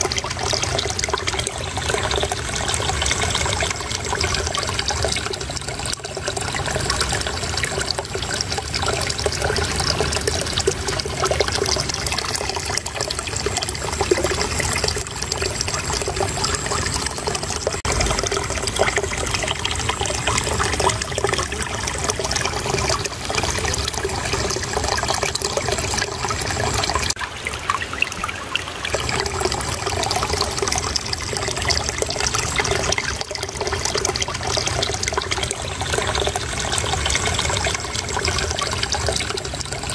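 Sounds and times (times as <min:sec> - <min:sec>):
shallow water babbling: 0:00.0 - 0:39.9.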